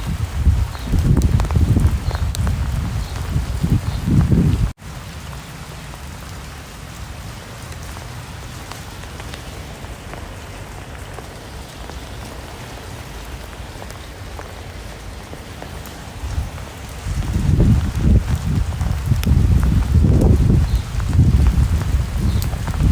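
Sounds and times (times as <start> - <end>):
steady rain with clicking drops: 0.0 - 22.9.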